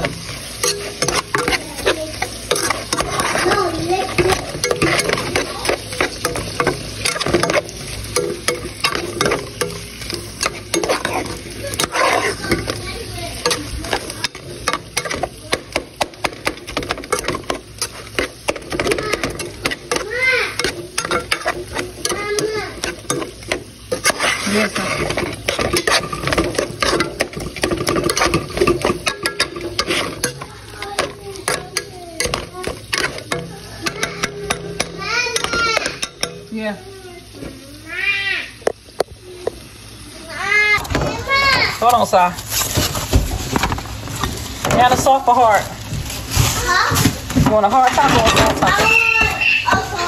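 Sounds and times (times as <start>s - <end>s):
metal spoon scraping pan: 0.0s - 37.5s, 46.3s - 50.0s
meat sizzling in a pan: 0.0s - 50.0s.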